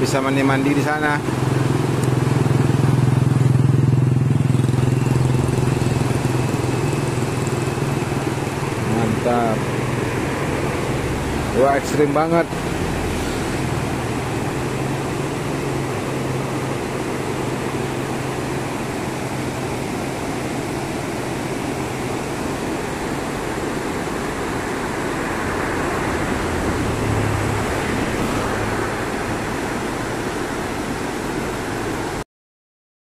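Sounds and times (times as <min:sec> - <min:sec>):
river rushing through rapids: 0:00.0 - 0:32.2.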